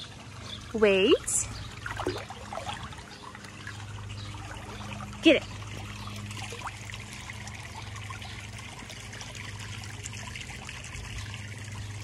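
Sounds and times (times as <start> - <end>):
low steady hum: 0.0 - 12.0
water trickling: 0.0 - 12.0.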